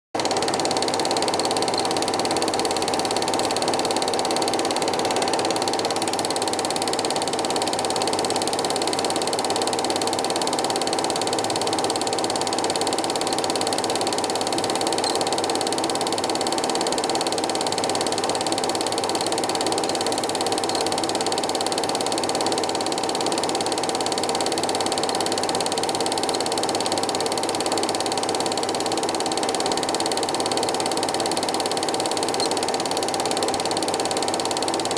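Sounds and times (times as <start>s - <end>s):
film projector running: 0.2s - 34.9s.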